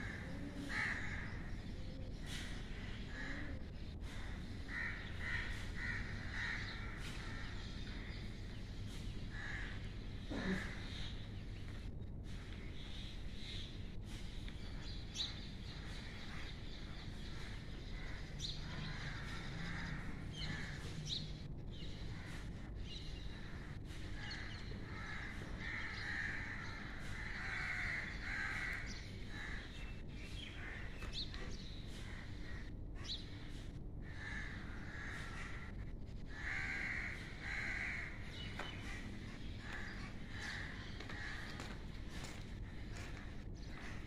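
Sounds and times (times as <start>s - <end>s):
crows cawing: 0.0s - 13.0s, 15.2s - 21.2s, 21.8s - 44.0s
steady low background noise: 0.0s - 44.0s.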